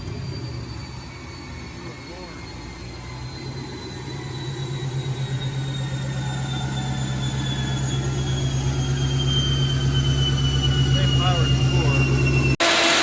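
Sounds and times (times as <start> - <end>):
engine drone on dyno: 0.0 - 13.0
high whine falling in pitch: 0.0 - 13.0.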